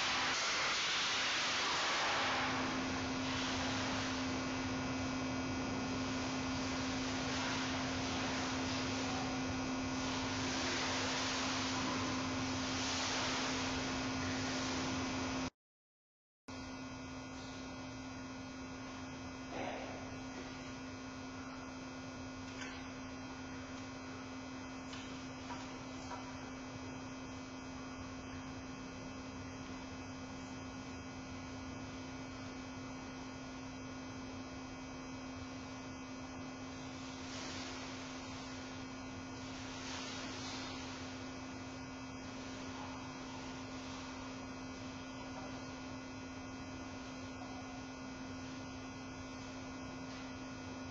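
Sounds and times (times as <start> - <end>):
electrical hum: 0.0 - 15.5, 16.5 - 50.9.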